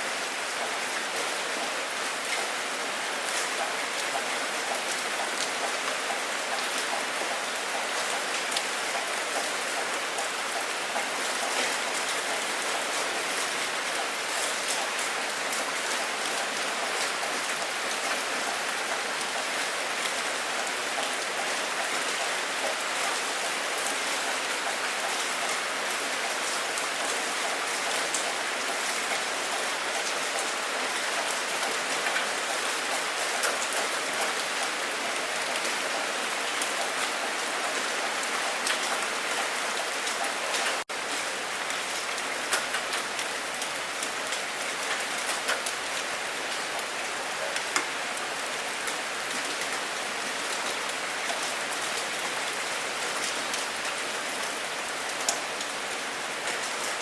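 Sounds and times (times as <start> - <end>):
steady rain falling: 0.0 - 57.0
raindrops ticking on a surface: 0.4 - 57.0.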